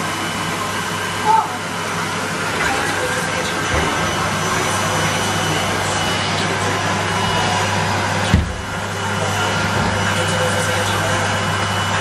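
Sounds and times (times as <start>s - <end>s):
vacuum cleaner motor running: 0.0s - 12.0s.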